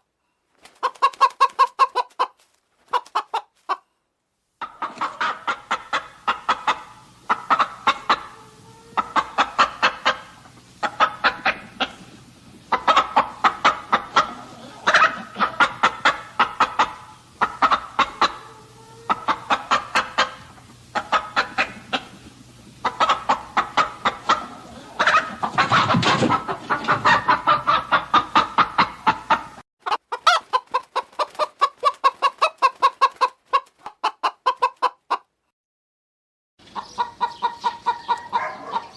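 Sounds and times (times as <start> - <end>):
chicken clucking rapidly: 0.6 - 3.9, 4.6 - 35.4, 36.6 - 38.9.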